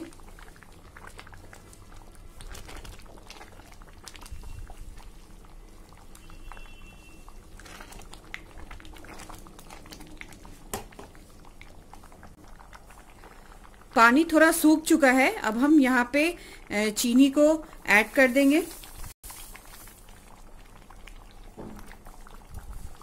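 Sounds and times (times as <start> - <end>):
milk boiling and bubbling: 0.0 - 23.0.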